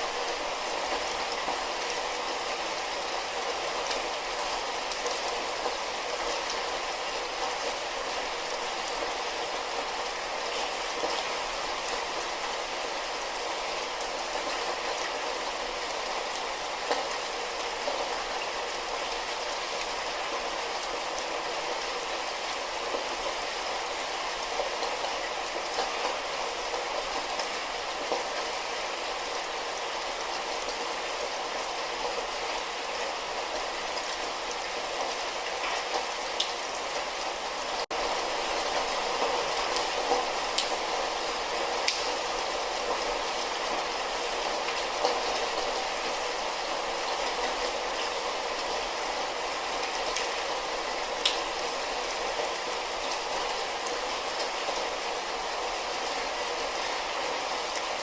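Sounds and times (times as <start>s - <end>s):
light rain hiss: 0.0s - 58.0s.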